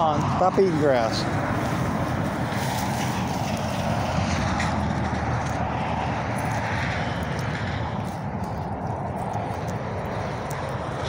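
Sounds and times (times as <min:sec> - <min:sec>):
freeway traffic noise: 0:00.0 - 0:11.0.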